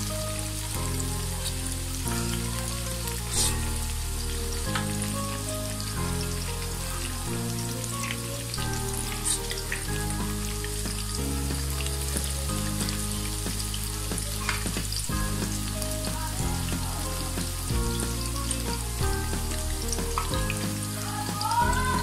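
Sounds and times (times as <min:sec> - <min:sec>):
background music: 0:00.0 - 0:22.0
oil crackling: 0:00.0 - 0:22.0
oil sizzling and bubbling: 0:00.0 - 0:22.0.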